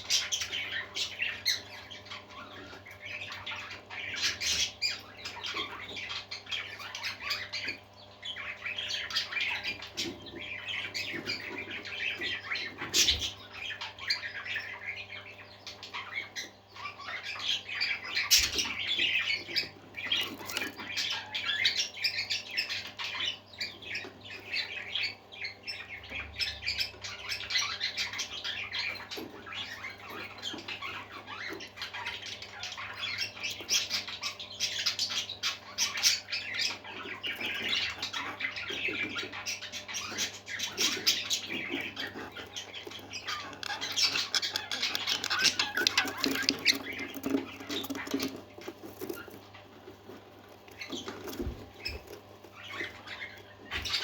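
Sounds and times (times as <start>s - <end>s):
parakeets chattering: 0.0s - 54.0s.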